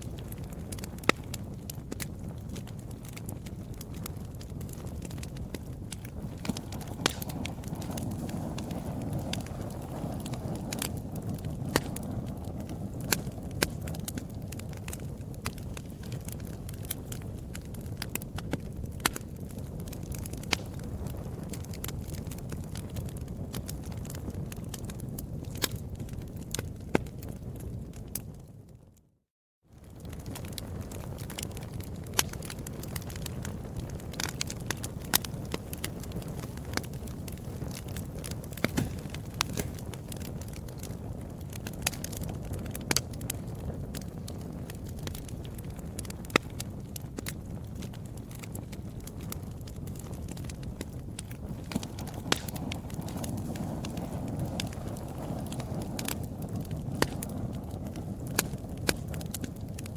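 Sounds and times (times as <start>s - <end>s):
low rumble of burning: 0.0s - 59.9s
wood fire crackling and popping: 0.0s - 59.9s.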